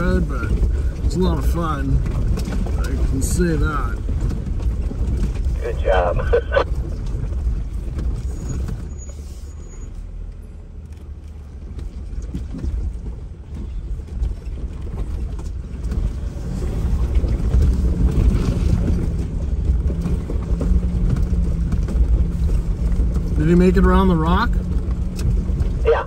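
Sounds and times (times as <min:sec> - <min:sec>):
off-road vehicle engine rumbling: 0:00.0 - 0:26.0.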